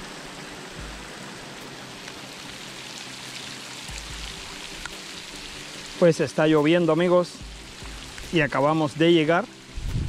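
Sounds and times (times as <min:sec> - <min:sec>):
heavy rain on water: 0:00.0 - 0:10.0.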